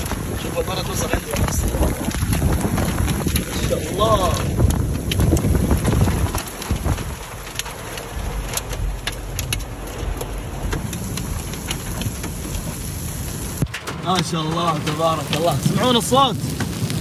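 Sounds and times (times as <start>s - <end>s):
hailstones pelting a car: 0.0s - 17.0s
low rumble: 0.0s - 17.0s.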